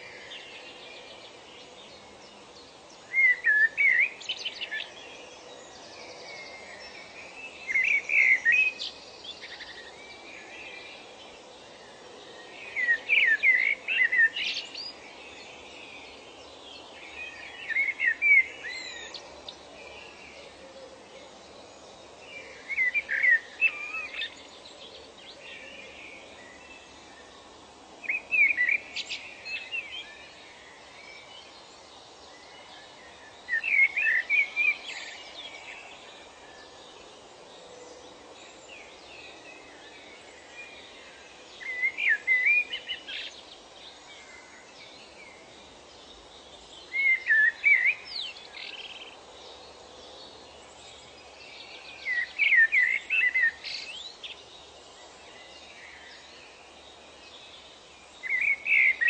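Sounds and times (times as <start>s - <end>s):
songbird warbling chirps: 0.0s - 11.0s, 11.7s - 27.4s, 28.0s - 37.1s, 37.7s - 59.0s
steady background hiss: 0.0s - 59.0s.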